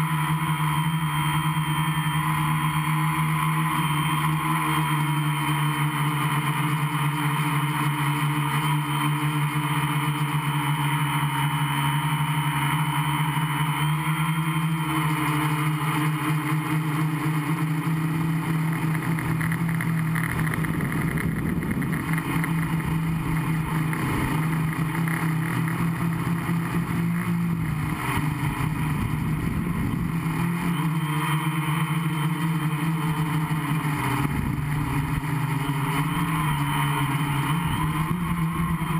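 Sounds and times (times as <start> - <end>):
quadcopter motors humming: 0.0 - 38.9.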